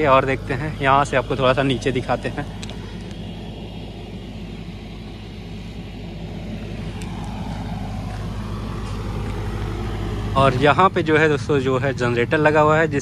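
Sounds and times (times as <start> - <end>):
generator engine humming: 0.0 - 13.0.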